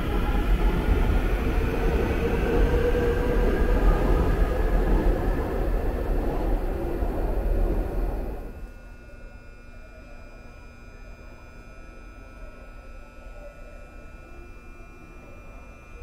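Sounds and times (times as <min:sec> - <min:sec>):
electric train rumble and motor whine: 0:00.0 - 0:16.0.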